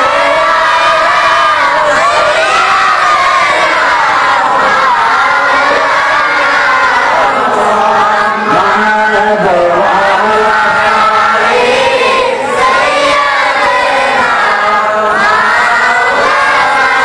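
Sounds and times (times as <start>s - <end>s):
crowd voices: 0.0s - 17.0s
man chanting over loudspeaker: 0.0s - 17.0s.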